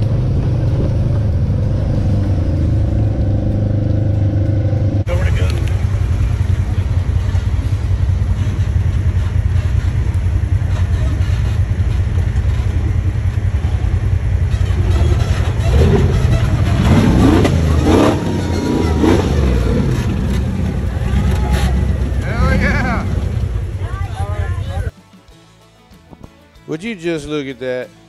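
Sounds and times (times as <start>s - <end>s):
utility vehicle engine droning: 0.0s - 24.9s.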